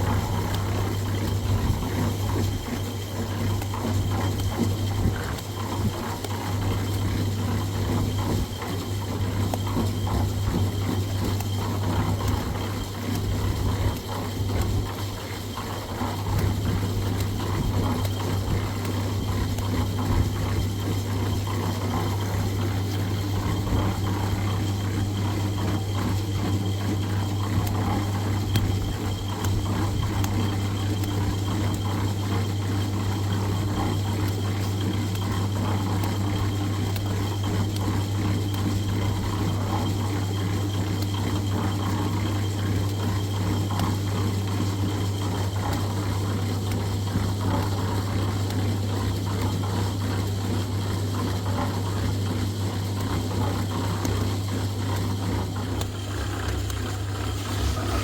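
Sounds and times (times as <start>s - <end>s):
machine humming and rattling: 0.0s - 58.0s.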